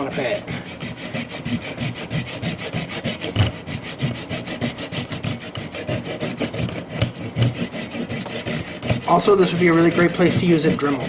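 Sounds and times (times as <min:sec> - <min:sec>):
handsaw cutting plastic: 0:00.0 - 0:11.0.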